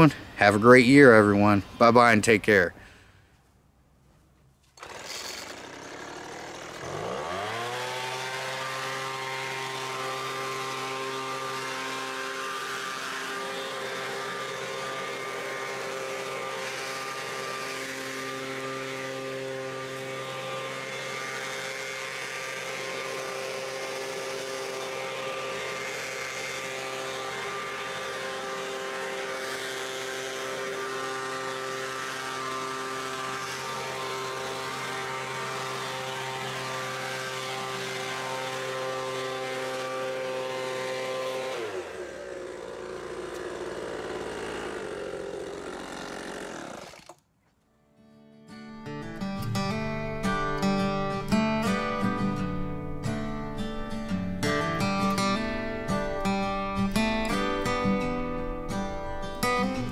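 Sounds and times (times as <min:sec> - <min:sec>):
leaf blower engine running: 0:00.0 - 0:03.0, 0:04.6 - 0:47.3, 0:48.8 - 0:59.9.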